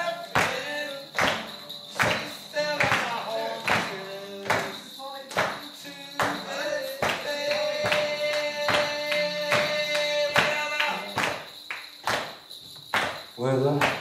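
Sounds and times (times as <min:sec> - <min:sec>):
man singing: 0:00.0 - 0:11.6
strummed acoustic guitar: 0:00.0 - 0:12.5
percussive beats: 0:00.0 - 0:14.0.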